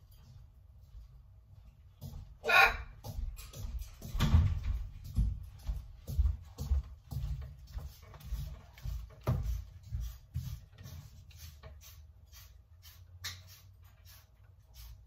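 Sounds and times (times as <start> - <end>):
footsteps and knocks: 0.0 - 12.1.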